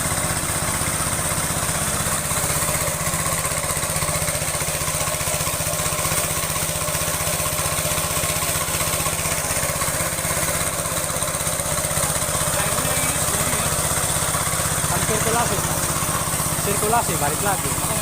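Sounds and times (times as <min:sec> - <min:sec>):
pressure washer pump hiss: 0:00.0 - 0:18.0
small engine running: 0:00.0 - 0:18.0.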